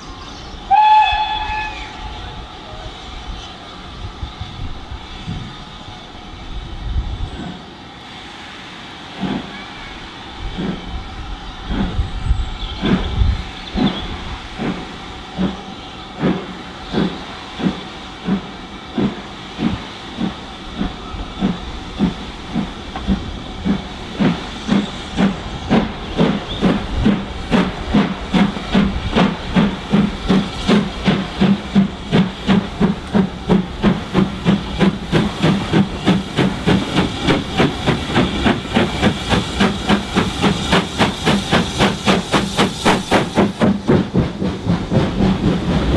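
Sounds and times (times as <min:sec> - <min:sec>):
steam hissing: 0:00.0 - 0:45.9
steam locomotive exhaust beats: 0:00.0 - 0:45.9.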